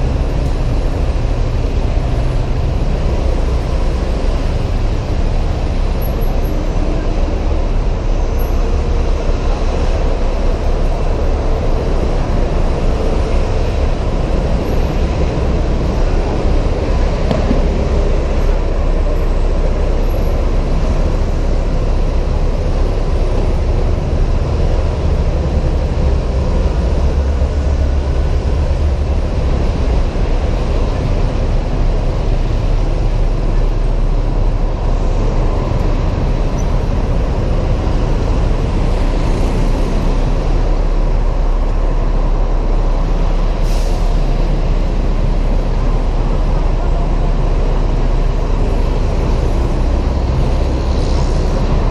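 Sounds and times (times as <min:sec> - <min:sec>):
surrounding traffic: 0:00.0 - 0:51.9
wind rush on microphone: 0:00.0 - 0:51.9.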